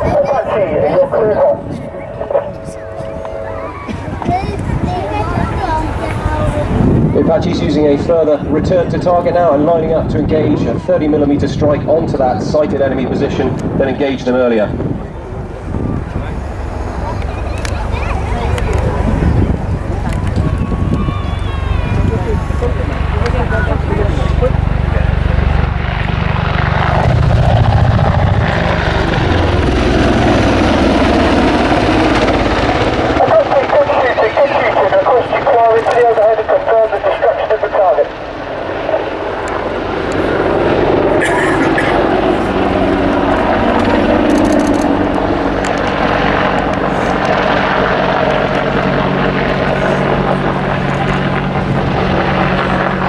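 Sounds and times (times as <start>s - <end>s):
helicopter rotor beating: 0.0s - 53.0s.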